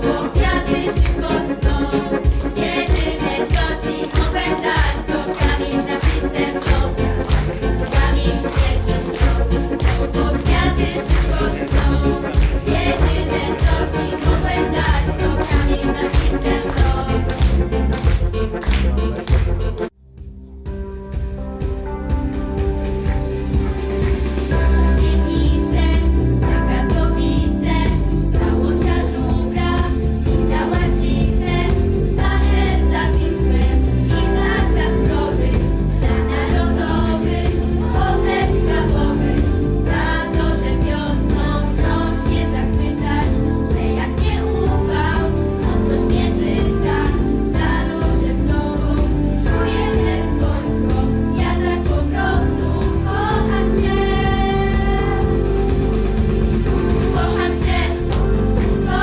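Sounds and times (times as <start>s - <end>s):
voices singing together: 0.0s - 19.9s, 24.2s - 59.0s
band accompaniment: 0.0s - 59.0s.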